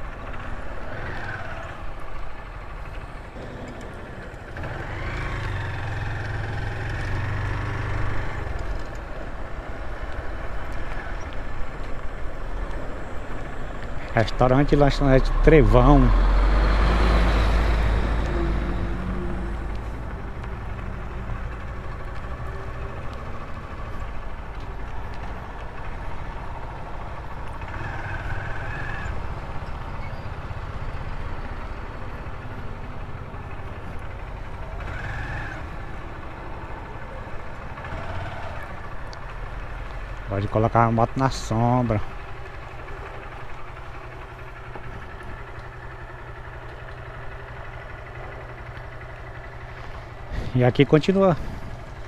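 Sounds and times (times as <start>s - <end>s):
motorcycle engine: 0.0s - 52.0s.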